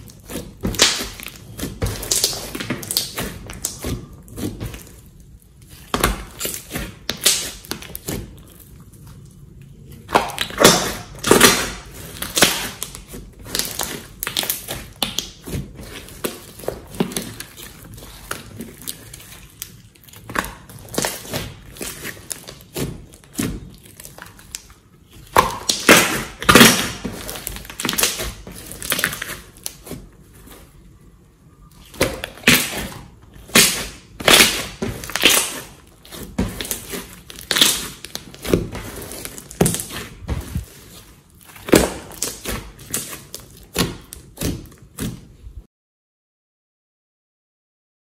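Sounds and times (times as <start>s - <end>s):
slime squelching by hand: 0.0s - 45.6s.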